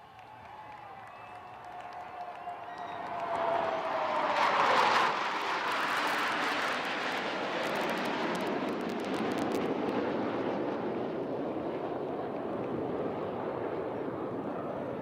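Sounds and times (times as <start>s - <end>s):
jet roar: 0.8s - 15.0s.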